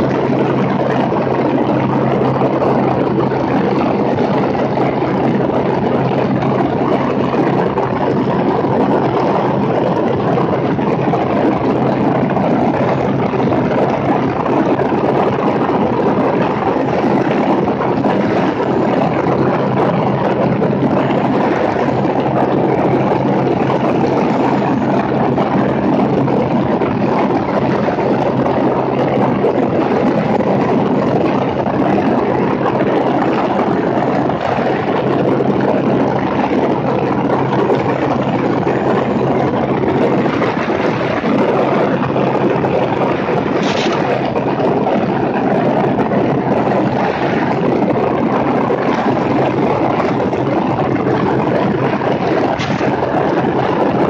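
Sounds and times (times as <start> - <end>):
airplane propeller engine droning: 0.0 - 54.0
wind rushing over microphone: 0.0 - 54.0.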